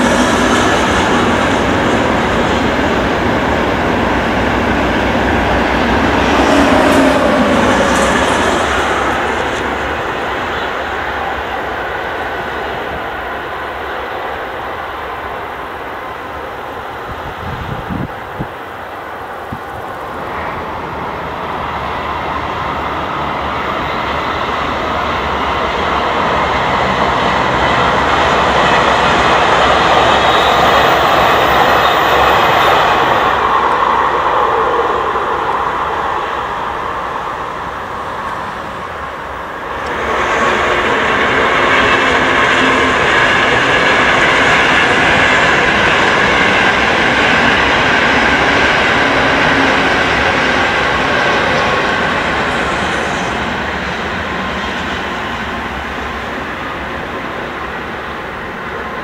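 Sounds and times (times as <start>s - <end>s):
high-speed trains passing: 0.0s - 59.0s.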